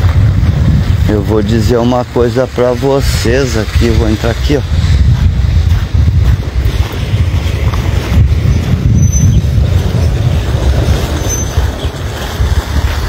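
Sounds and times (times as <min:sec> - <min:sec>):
low rumble of microphone noise: 0:00.0 - 0:13.0.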